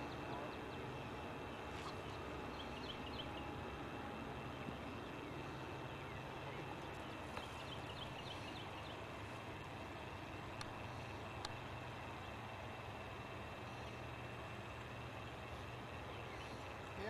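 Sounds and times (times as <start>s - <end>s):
low hum: 0.0s - 17.0s
outdoor background hiss: 0.0s - 17.0s.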